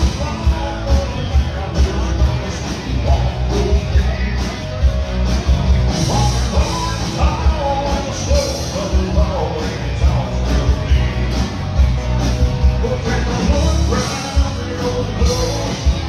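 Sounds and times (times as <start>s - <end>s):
man singing lead vocal: 0.0s - 4.9s, 5.8s - 16.0s
drums: 0.0s - 16.0s
electric and acoustic guitar: 0.0s - 16.0s.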